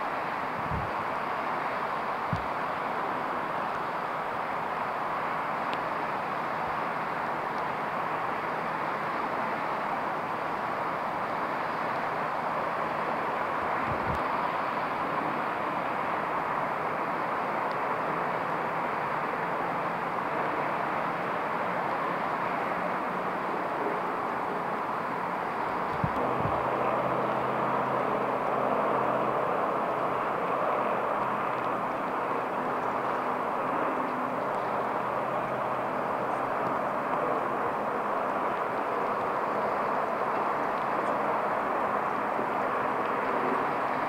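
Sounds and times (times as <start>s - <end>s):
light rain on a wet street: 0.0s - 44.0s.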